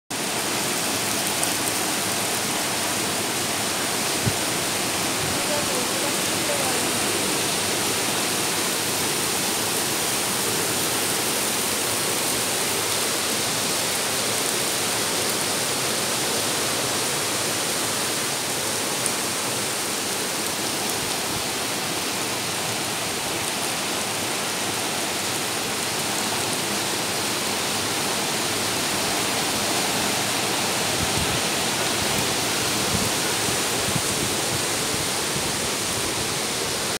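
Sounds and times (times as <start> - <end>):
floodwater rushing through culvert: 0.1 - 36.9
heavy rain: 0.1 - 36.9.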